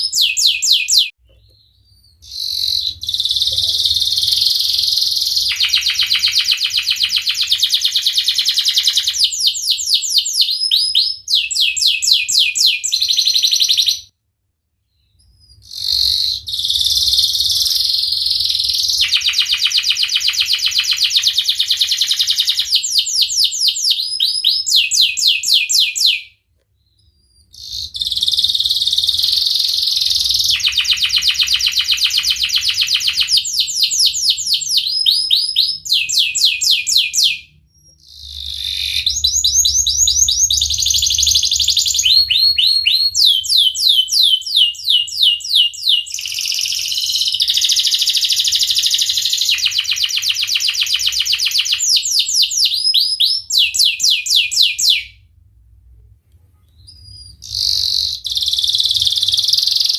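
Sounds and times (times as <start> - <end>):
canary singing trills: 0.0 - 14.1, 14.9 - 55.2, 56.7 - 59.9.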